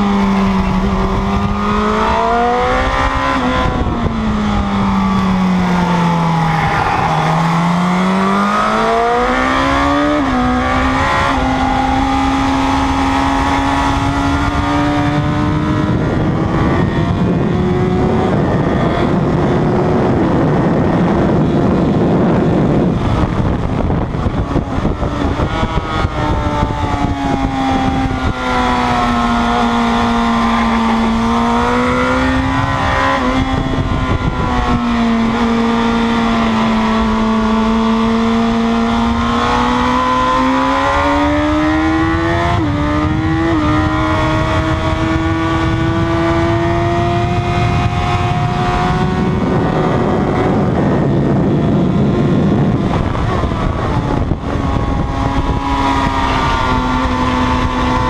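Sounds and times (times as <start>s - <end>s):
motorcycle engine revving: 0.0s - 58.0s
wind noise: 0.0s - 58.0s.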